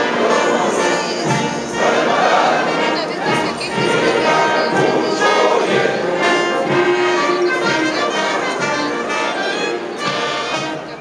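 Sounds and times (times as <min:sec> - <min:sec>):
choir singing over instruments: 0:00.0 - 0:11.0.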